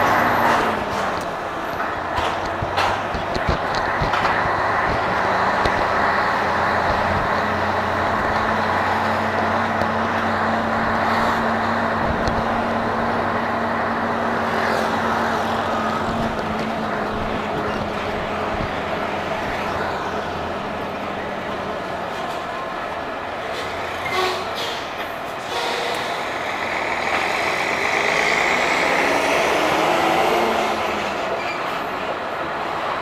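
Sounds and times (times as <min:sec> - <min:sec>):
truck diesel engine running: 0:00.0 - 0:29.2
road and cab noise: 0:00.0 - 0:33.0.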